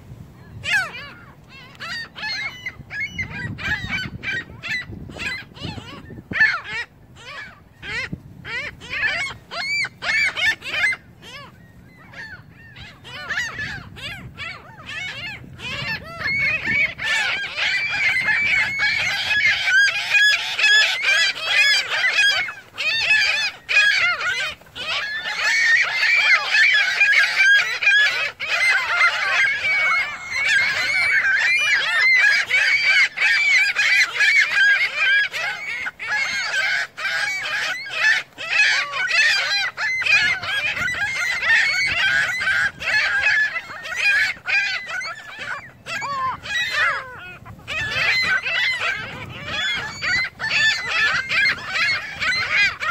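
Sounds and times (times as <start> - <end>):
gulls calling: 0.0 - 52.9.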